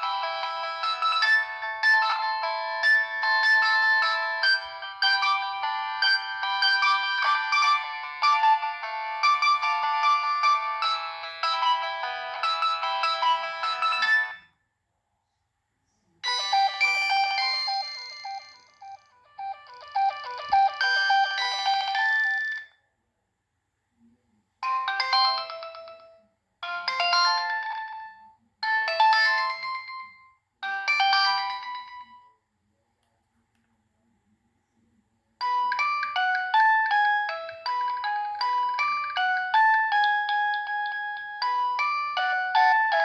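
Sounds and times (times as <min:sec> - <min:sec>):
phone ringtone melodies: 0:00.0 - 0:14.5, 0:16.2 - 0:22.7, 0:24.6 - 0:32.3, 0:35.4 - 0:43.0.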